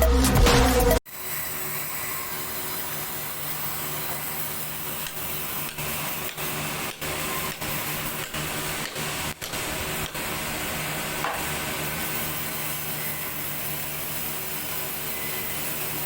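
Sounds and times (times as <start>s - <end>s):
sawmill saw running: 0.8s - 16.0s.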